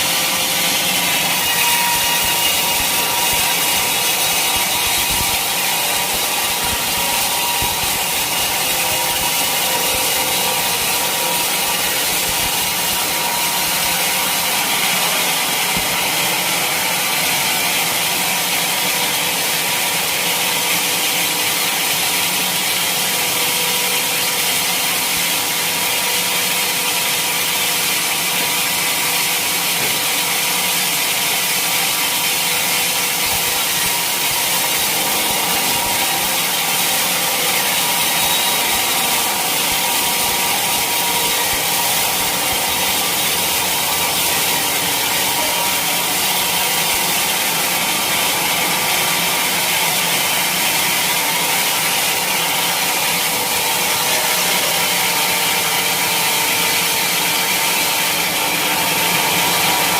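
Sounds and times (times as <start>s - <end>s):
bandsaw blade cutting log: 0.0s - 59.9s
sawmill motor running: 0.0s - 59.9s.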